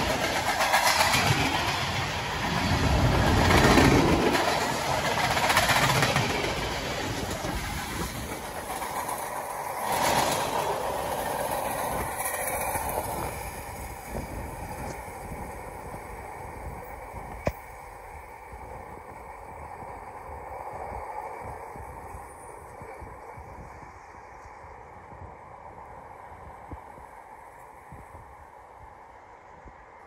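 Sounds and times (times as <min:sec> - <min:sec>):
train rolling past: 0:00.0 - 0:30.0.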